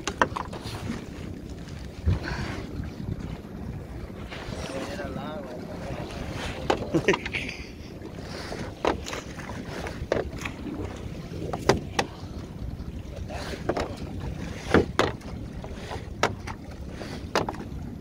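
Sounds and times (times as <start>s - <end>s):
boat rumble: 0.0s - 18.0s
wind on microphone: 0.0s - 18.0s.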